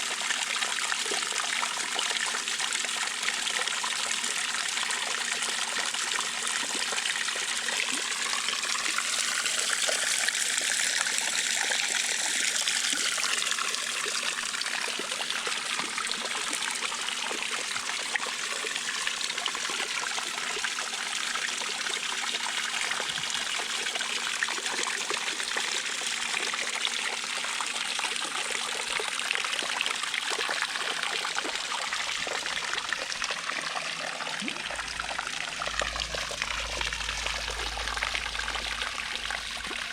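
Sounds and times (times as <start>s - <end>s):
fountain water falling and splashing: 0.0s - 39.9s.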